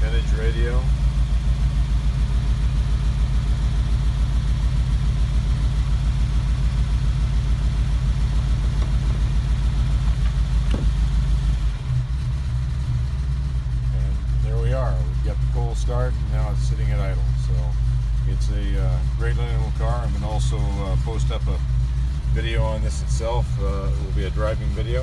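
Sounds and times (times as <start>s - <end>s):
engine running with low pulsing beat: 0.0s - 25.0s.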